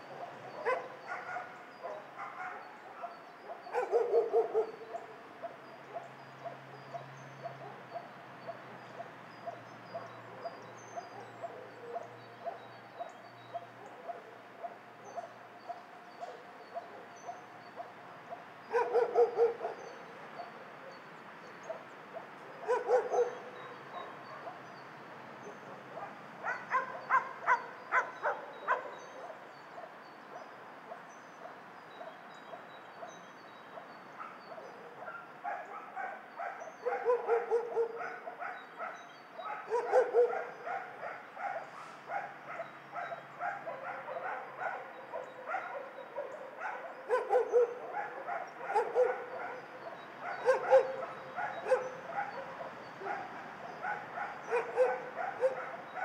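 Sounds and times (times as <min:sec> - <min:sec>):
dogs barking: 0:00.0 - 0:56.0.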